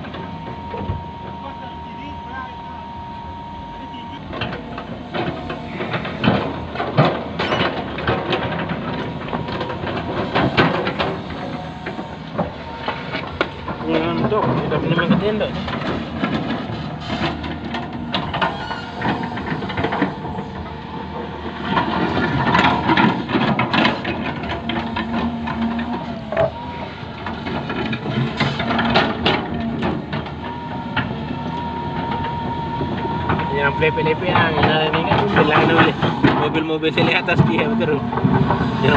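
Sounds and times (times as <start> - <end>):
excavator engine running: 0.0 - 38.9
steady whine: 0.0 - 38.9
bucket clanking and crunching soil: 4.3 - 31.2, 32.9 - 38.9.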